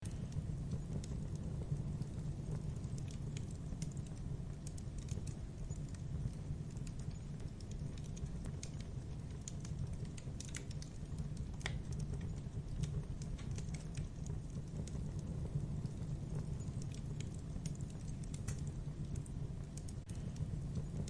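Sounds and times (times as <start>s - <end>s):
fire popping: 0.0s - 21.0s
logs crackling in fireplace: 0.0s - 21.0s
low rumble of fire: 0.0s - 21.0s.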